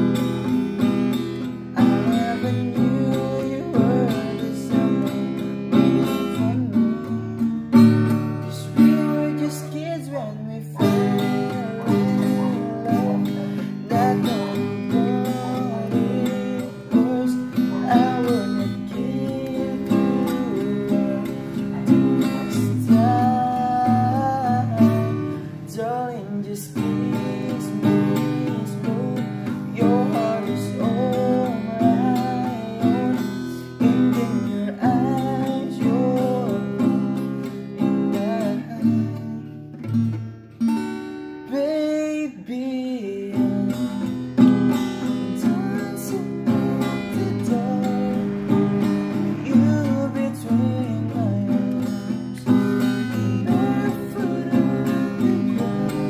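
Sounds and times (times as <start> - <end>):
man singing: 0.0 - 39.6, 41.4 - 56.0
acoustic guitar strumming: 0.0 - 56.0.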